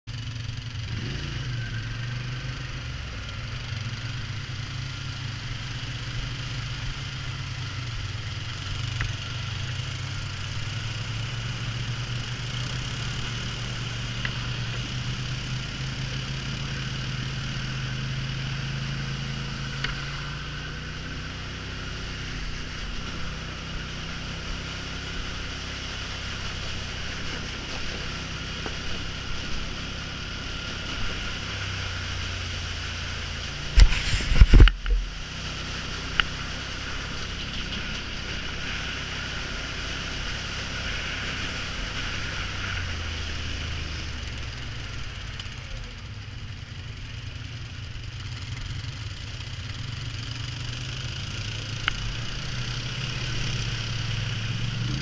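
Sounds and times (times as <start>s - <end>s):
atv engine running: 0.1s - 55.0s.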